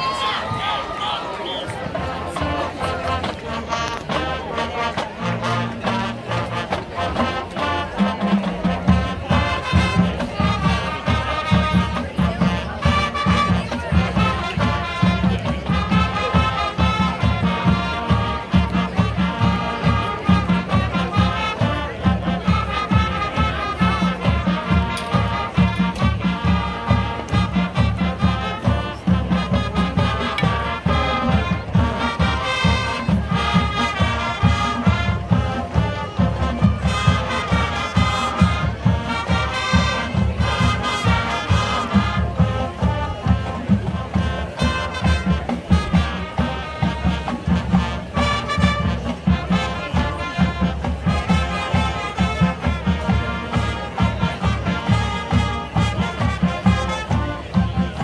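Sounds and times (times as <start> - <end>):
brass horns: 0.0 - 58.0
drumline beat: 0.0 - 58.0.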